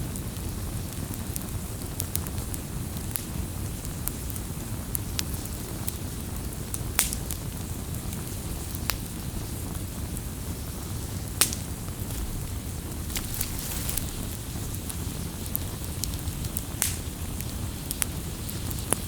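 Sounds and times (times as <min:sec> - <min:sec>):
campfire flame rumble: 0:00.0 - 0:19.0
fire crackling pops: 0:00.1 - 0:19.0.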